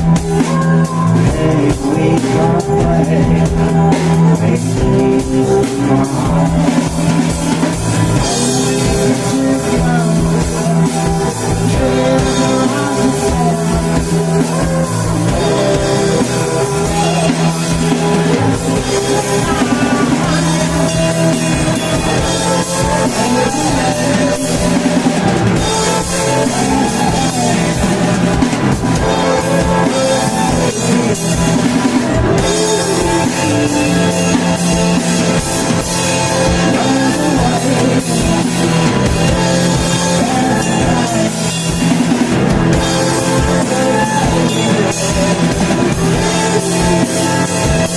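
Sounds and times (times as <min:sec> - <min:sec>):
drum kit: 0:00.0 - 0:47.9
guitars: 0:00.0 - 0:47.9
rock band playing live: 0:00.0 - 0:47.9.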